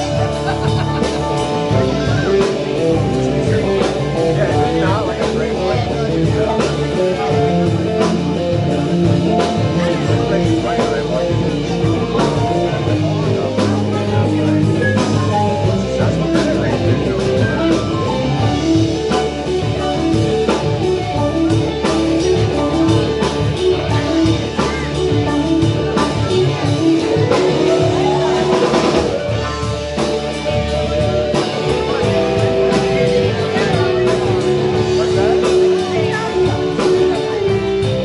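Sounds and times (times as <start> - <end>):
rock music with guitar and drums: 0.0 - 38.0.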